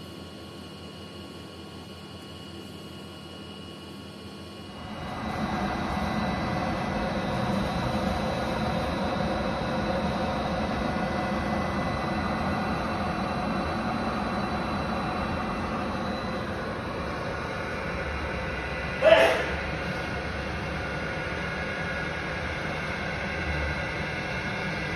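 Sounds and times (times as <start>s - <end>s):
faint whine tones: 0.0s - 24.9s
screw feeder mechanical drone: 0.0s - 24.9s.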